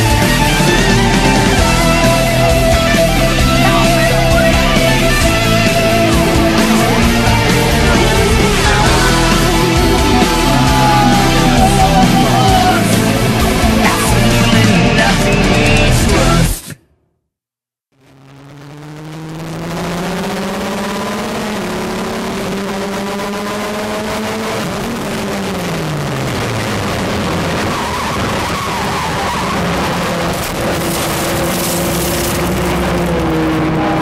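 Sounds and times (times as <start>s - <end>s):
race car engine: 0.0s - 16.8s, 17.9s - 34.0s.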